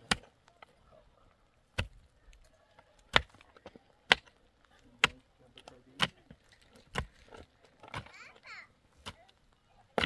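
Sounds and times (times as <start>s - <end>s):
pick striking stony soil: 0.0s - 0.8s, 1.7s - 8.2s, 8.9s - 10.0s
clicks of loose stones: 1.8s - 10.0s.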